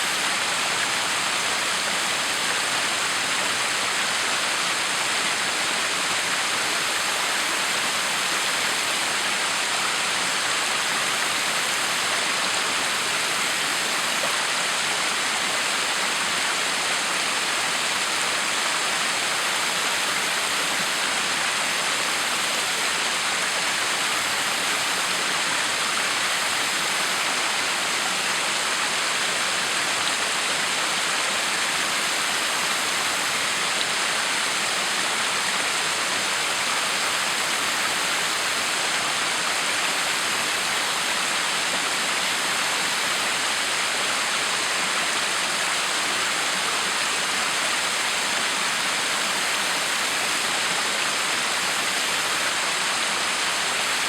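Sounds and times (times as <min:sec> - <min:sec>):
waterfall splashing: 0:00.0 - 0:54.0.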